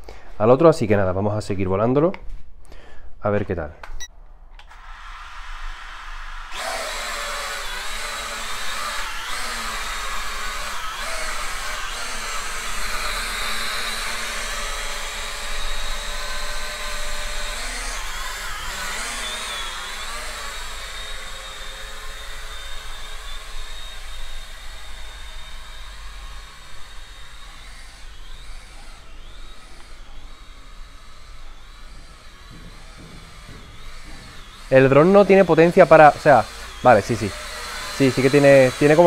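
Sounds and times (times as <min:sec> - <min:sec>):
toy drone buzzing: 0:04.7 - 0:39.0.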